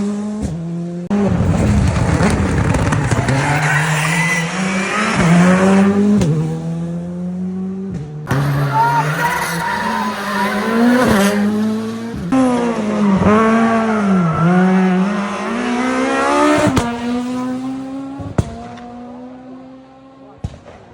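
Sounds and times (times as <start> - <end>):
rally car engine revving: 0.0 - 20.5.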